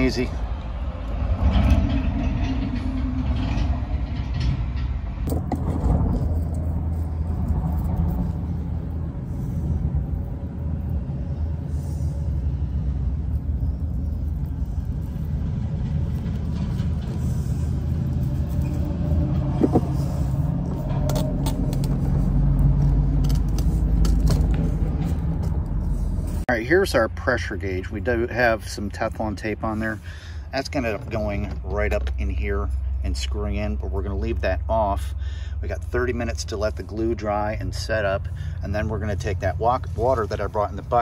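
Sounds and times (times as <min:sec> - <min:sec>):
heavy highway traffic rumble: 0:00.0 - 0:41.0.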